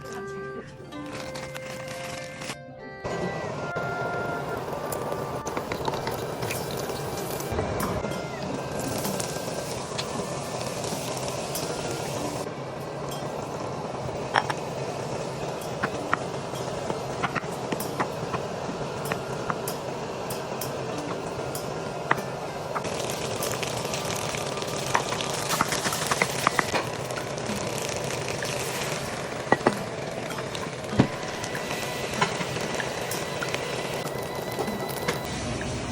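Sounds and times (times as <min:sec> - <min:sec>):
food sizzling and bubbling in pot: 0:03.4 - 0:35.9.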